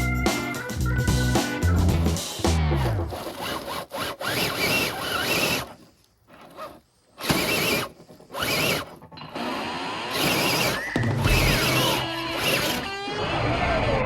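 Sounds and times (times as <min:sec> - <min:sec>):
electric motor and gears whining: 0:01.7 - 0:13.3.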